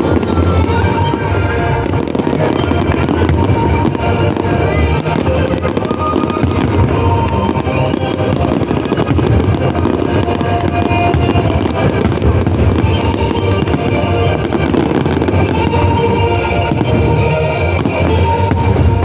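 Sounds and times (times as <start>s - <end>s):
fireworks popping and banging: 0.0s - 19.0s
loud music: 0.0s - 19.0s.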